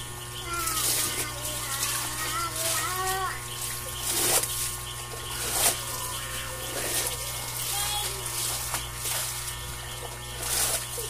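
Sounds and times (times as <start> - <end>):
low electric buzz: 0.0 - 11.0.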